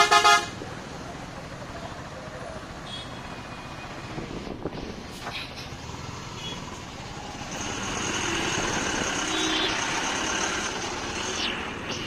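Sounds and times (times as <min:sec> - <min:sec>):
engines in traffic: 0:00.0 - 0:12.0.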